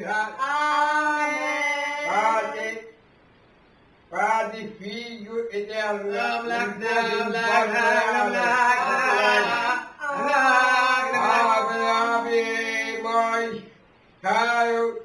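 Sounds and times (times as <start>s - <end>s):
voices chanting a sung melody: 0.0s - 3.0s, 4.1s - 15.0s.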